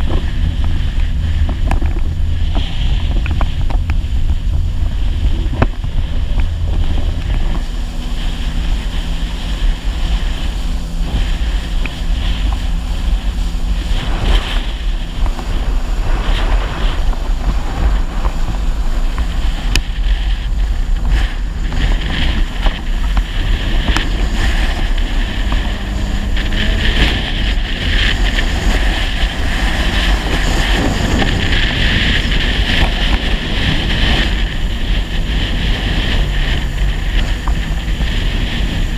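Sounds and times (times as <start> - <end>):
rushing water: 0.0 - 38.9
watercraft engine drone: 0.0 - 38.9
wind buffeting microphone: 0.0 - 38.9.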